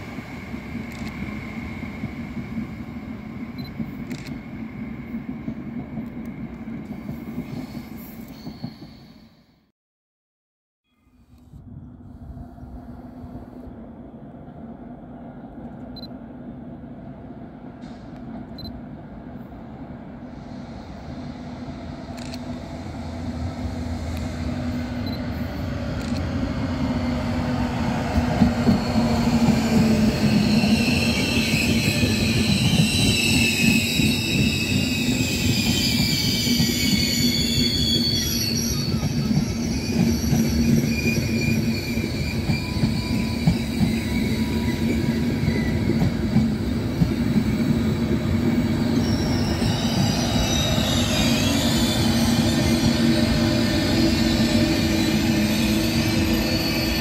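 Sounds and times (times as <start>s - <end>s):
train wheels rumbling on rail: 0.0s - 9.2s, 12.2s - 57.0s
high train squeal: 0.0s - 9.7s, 20.2s - 57.0s.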